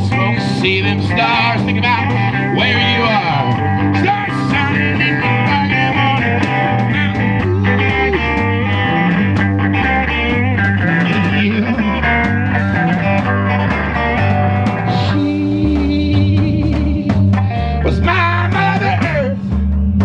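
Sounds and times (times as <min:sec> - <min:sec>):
bass line: 0:00.0 - 0:20.0
guitars playing: 0:00.0 - 0:20.0.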